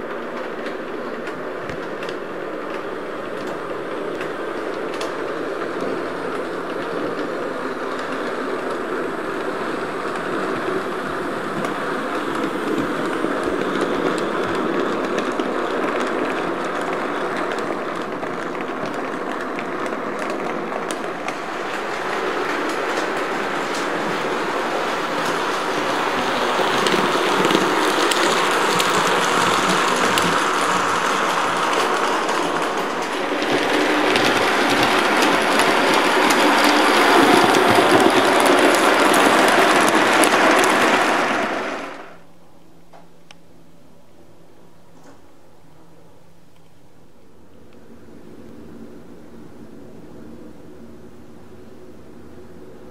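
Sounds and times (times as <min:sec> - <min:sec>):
model train running on track: 0:00.0 - 0:52.9.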